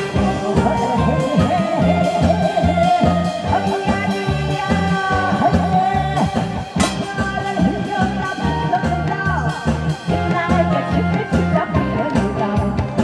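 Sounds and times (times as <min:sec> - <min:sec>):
backing track with steady beat: 0:00.0 - 0:13.0
woman singing into microphone: 0:00.0 - 0:13.0.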